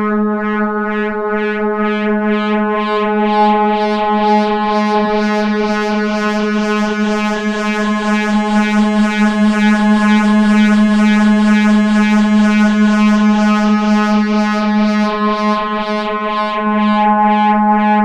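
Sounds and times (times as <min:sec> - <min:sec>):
wobbling synthesizer drone: 0:00.0 - 0:18.0.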